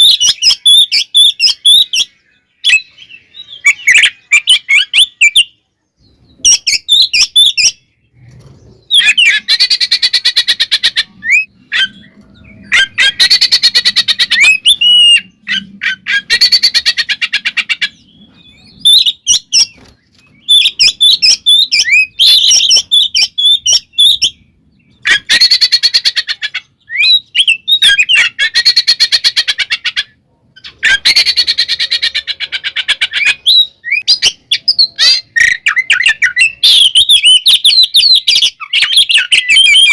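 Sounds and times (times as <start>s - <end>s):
bird whistled phrases: 0.0s - 5.6s, 9.0s - 17.1s, 17.8s - 19.8s, 20.4s - 32.3s, 33.0s - 39.9s
bird harsh chattering: 6.3s - 39.9s.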